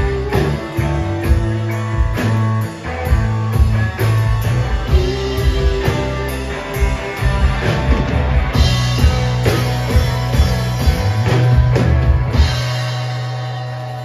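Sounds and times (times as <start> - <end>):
held low bass and guitar note: 0.0 - 14.0
rock band playing: 0.0 - 14.0.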